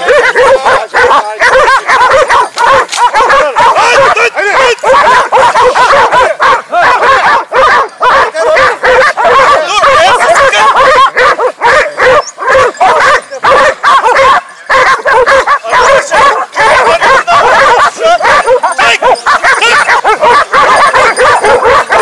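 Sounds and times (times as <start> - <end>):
hounds barking and yelping: 0.0 - 22.0.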